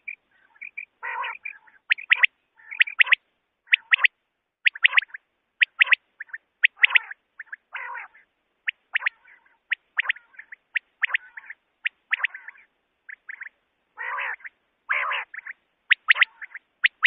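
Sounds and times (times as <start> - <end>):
raspy bird call: 0.0 - 4.1, 4.7 - 17.0
quail calling: 0.0 - 17.0.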